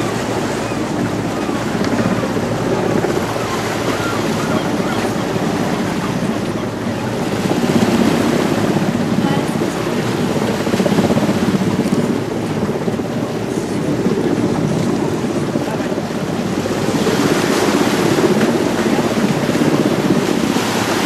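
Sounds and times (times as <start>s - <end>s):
helicopter rotor chop: 0.0s - 21.0s.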